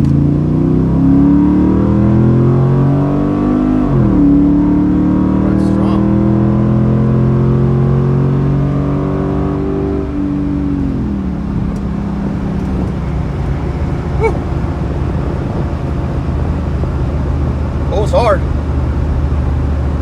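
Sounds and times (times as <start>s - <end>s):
vee eight engine drone: 0.9s - 19.5s.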